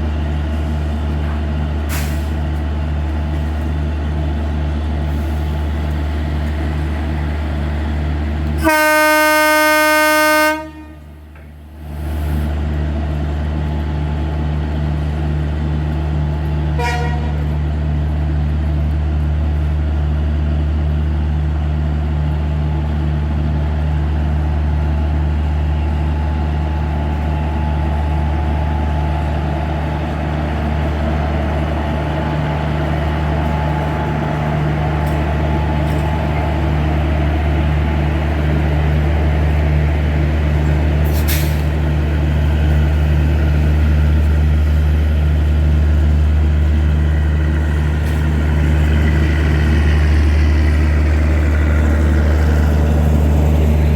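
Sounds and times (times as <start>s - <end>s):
train machinery humming: 0.0s - 53.9s.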